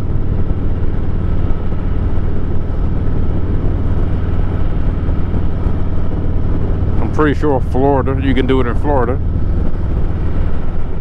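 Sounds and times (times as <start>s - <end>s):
motorcycle engine rumbling: 0.0s - 11.0s
wind rushing over microphone: 0.0s - 11.0s.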